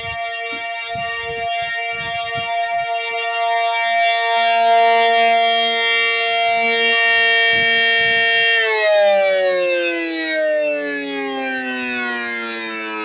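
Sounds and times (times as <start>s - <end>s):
lower steady siren tone: 0.0s - 13.0s
siren steady tone: 0.0s - 13.0s.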